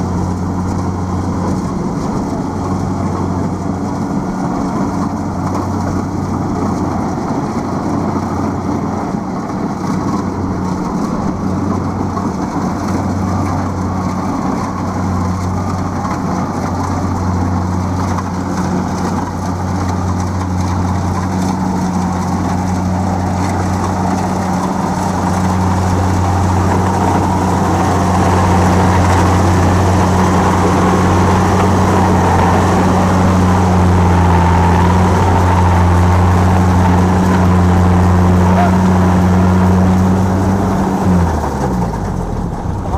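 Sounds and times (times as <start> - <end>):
diesel engine humming: 0.0 - 42.9
machinery rattling: 0.0 - 42.9.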